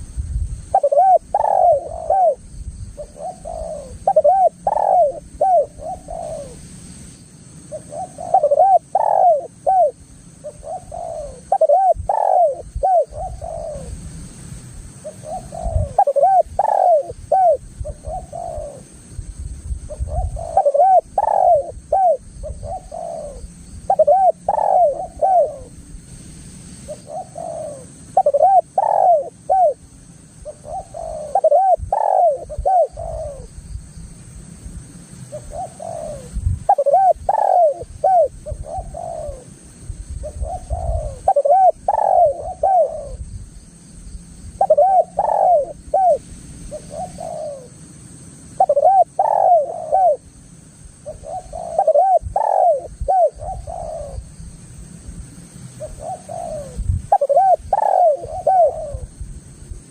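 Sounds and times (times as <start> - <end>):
dove cooing: 0.6 - 6.6, 7.6 - 14.0, 15.0 - 19.0, 19.9 - 25.8, 26.9 - 33.6, 35.3 - 39.5, 40.2 - 43.3, 44.6 - 47.8, 48.6 - 50.3, 51.0 - 54.3, 55.8 - 59.2.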